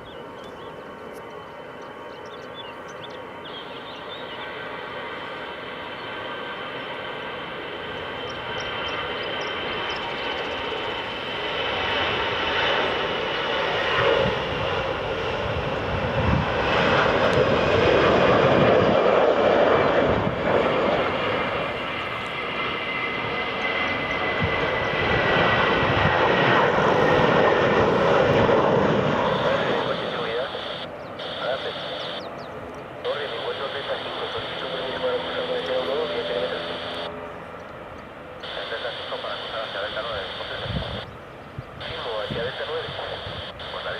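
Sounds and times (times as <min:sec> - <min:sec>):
airliner engines roaring: 0:00.0 - 0:43.9.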